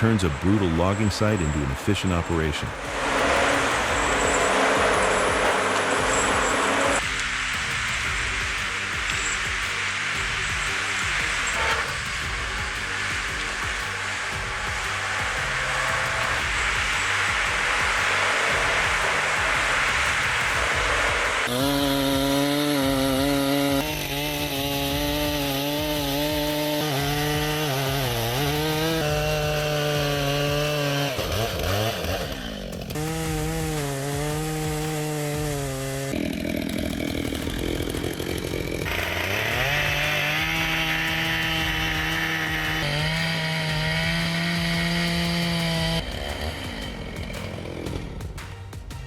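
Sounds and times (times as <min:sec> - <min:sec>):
chainsaw cutting wood: 0:00.0 - 0:49.0.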